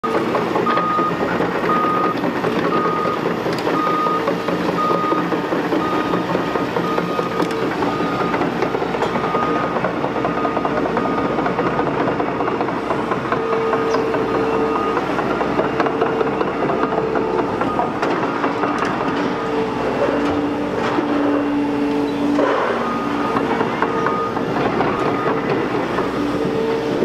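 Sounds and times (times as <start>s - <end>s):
reversing alarm beeps: 0.0s - 11.9s, 13.3s - 27.0s
excavator running: 0.0s - 27.0s.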